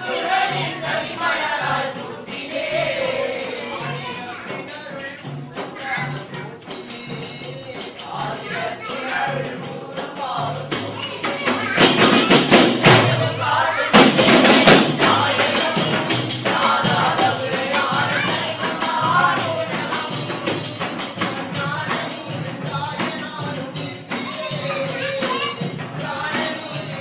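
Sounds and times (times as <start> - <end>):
hand-beaten frame drums: 0.0 - 27.0
men singing in chorus: 0.0 - 27.0.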